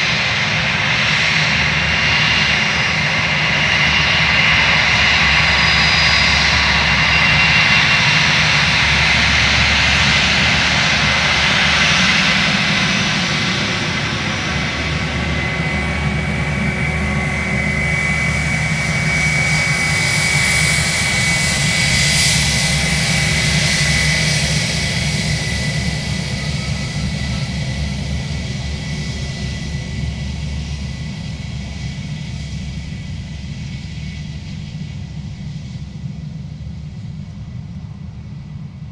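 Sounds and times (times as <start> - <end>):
jet engines whining: 0.0 - 38.6.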